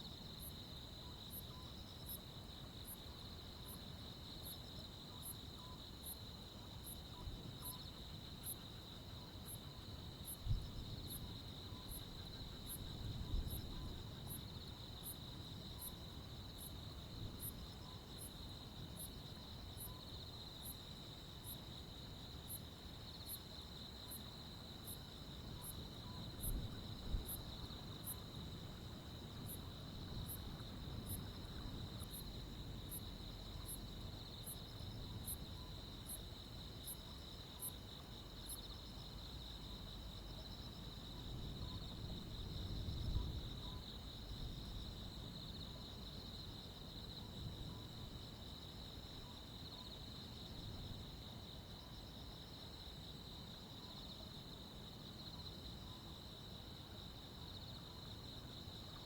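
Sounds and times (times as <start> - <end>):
insect high chirp: 0.0 - 59.0
crickets trilling: 0.1 - 59.0.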